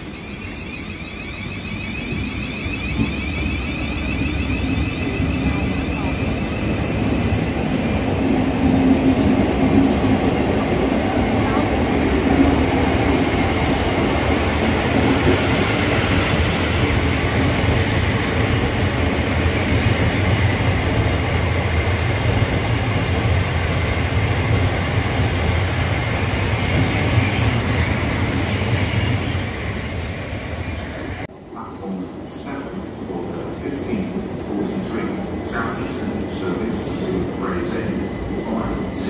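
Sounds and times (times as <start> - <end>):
passenger train rumbling: 0.0 - 39.0.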